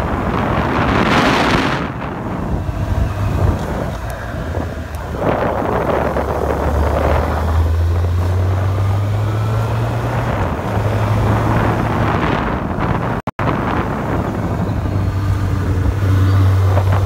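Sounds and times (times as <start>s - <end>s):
car engine droning: 0.0s - 17.0s
wind buffeting microphone: 0.0s - 17.0s.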